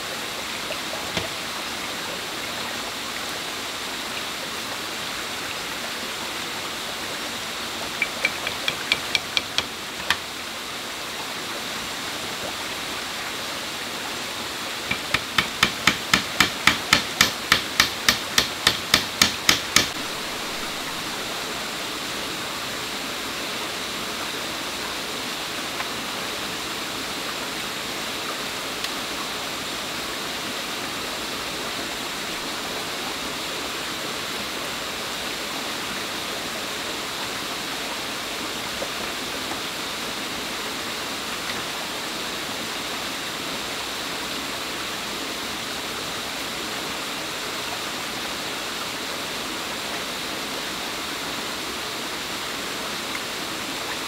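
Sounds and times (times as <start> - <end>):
stream rushing and splashing: 0.0 - 54.0.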